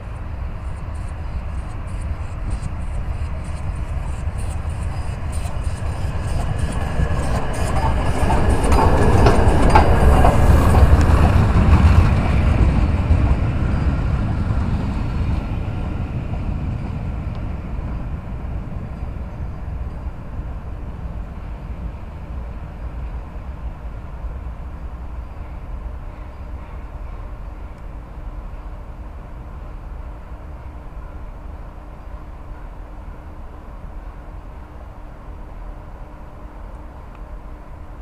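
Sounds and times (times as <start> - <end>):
steam locomotive passing: 0.0 - 38.0.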